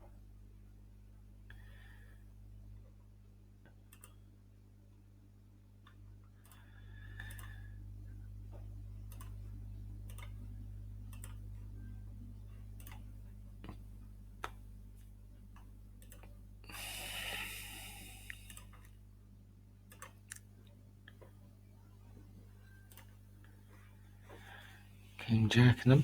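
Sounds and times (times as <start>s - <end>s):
steady low hum: 0.0s - 26.0s
faint clicks and ticks: 1.4s - 4.4s, 5.8s - 19.0s, 19.8s - 24.8s.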